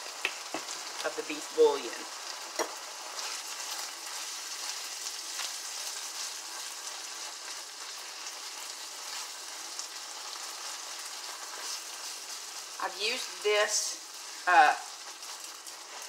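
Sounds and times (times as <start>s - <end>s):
meat sizzling in a frying pan: 0.0s - 16.0s
utensil stirring in a pan: 0.4s - 16.0s.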